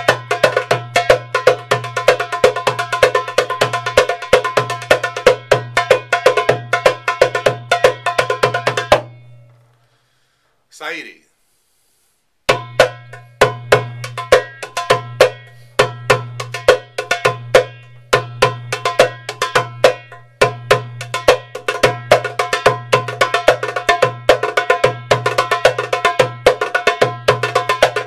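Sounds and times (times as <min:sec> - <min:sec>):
goblet drum playing: 0:00.0 - 0:09.2, 0:12.5 - 0:28.0.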